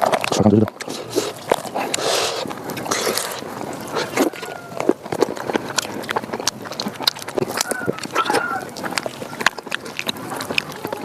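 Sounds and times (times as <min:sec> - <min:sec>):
chewing food: 0:00.0 - 0:11.0
wet mouth clicks and smacks: 0:00.0 - 0:11.0.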